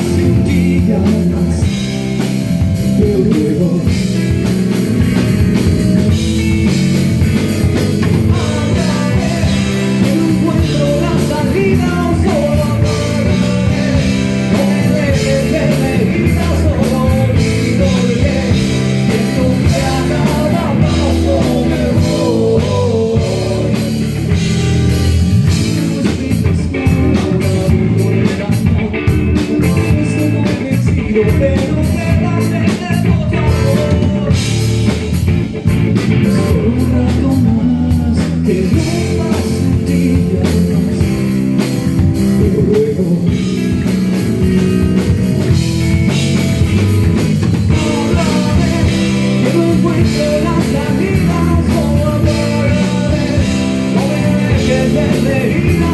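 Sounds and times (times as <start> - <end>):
electric guitar melody: 0.0 - 55.9
rock song: 0.0 - 55.9.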